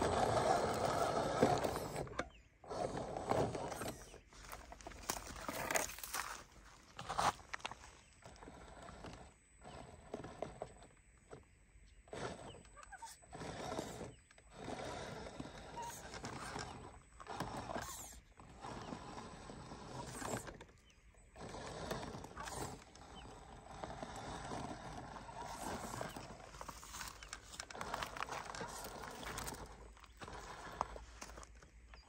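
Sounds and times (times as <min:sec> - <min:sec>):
electric motor whirring: 0:00.0 - 0:06.2, 0:12.0 - 0:32.0.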